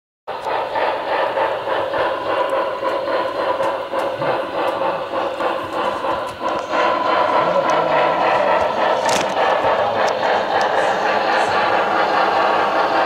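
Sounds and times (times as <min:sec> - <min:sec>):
model train steam chuffing: 0:00.3 - 0:13.0.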